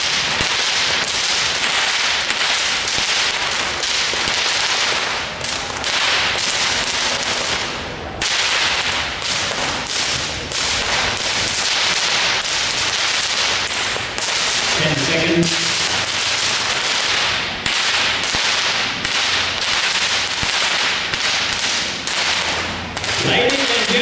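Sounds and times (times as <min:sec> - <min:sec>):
whips cracking: 0:00.0 - 0:24.0.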